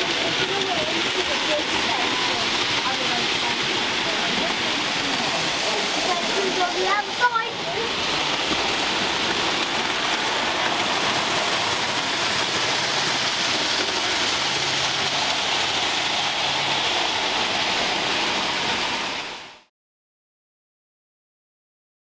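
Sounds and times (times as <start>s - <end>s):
model train motor hum: 0.0s - 19.6s.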